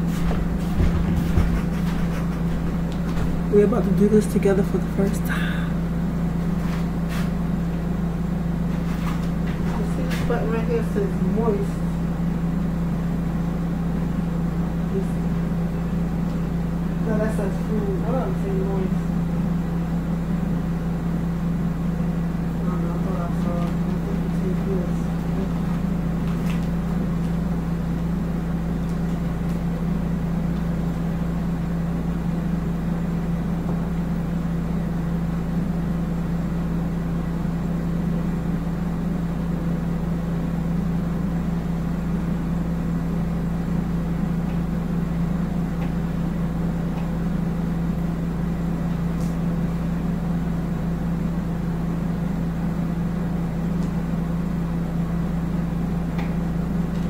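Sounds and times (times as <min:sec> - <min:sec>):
vacuum sealer pump humming: 0:00.0 - 0:57.0.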